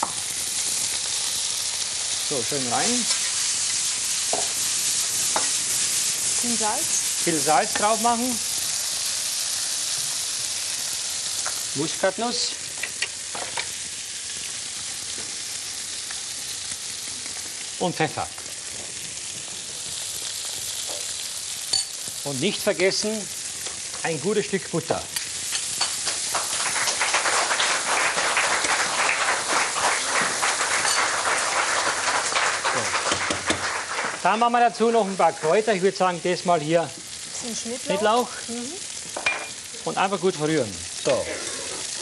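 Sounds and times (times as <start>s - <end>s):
dumplings sizzling in a pan: 0.0s - 42.0s.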